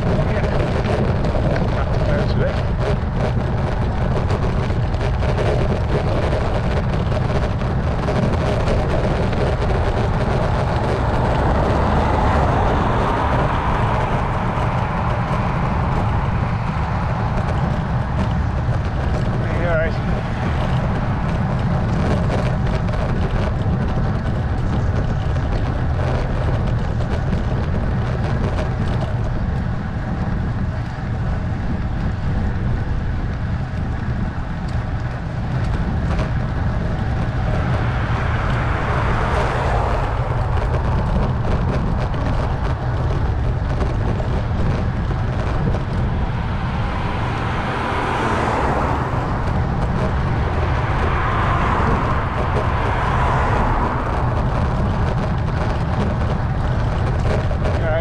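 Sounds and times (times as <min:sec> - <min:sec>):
motor vehicle passing: 0:00.0 - 0:58.0
wind noise on microphone: 0:00.0 - 0:58.0.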